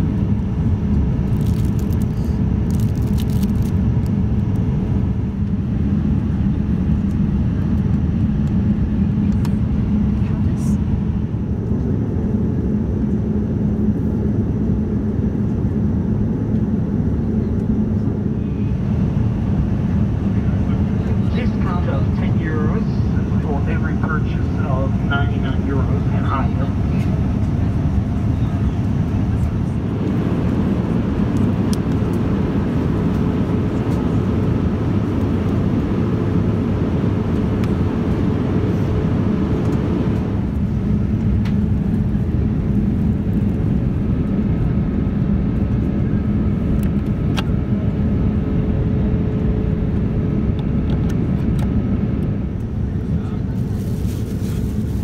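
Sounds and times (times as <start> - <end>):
airliner cabin air rush: 0.0 - 55.0.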